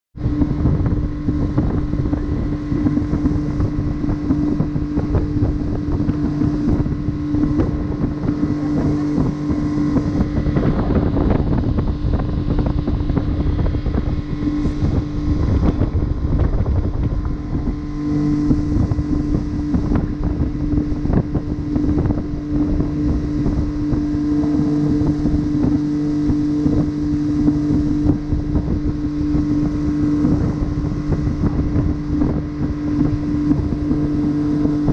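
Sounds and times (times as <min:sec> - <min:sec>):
outboard motor humming: 0:00.1 - 0:34.9
wind buffeting microphone: 0:00.2 - 0:34.9.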